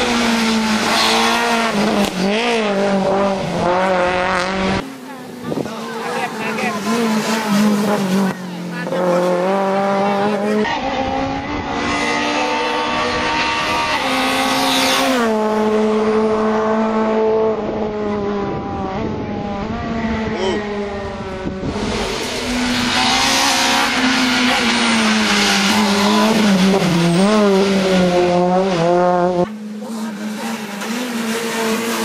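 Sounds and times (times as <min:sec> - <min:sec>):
rally car engine at high revs: 0:00.0 - 0:32.0.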